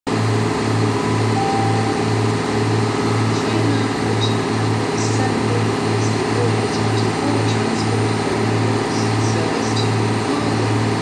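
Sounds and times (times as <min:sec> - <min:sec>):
diesel train engines humming: 0:00.1 - 0:11.0.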